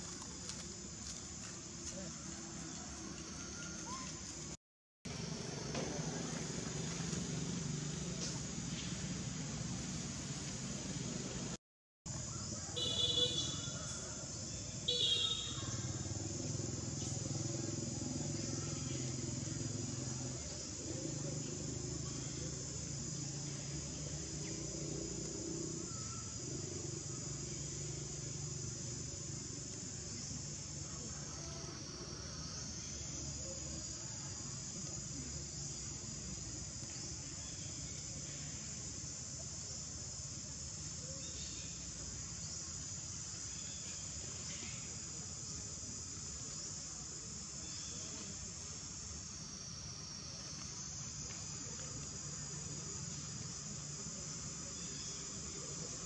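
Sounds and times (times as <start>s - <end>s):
high-pitched insect chorus: 0.0s - 4.6s, 12.1s - 56.0s.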